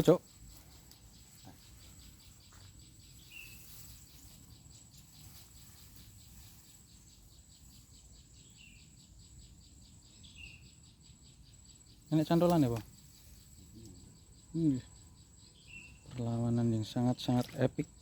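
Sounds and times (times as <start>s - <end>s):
insect pulsing chirp: 0.0s - 18.0s.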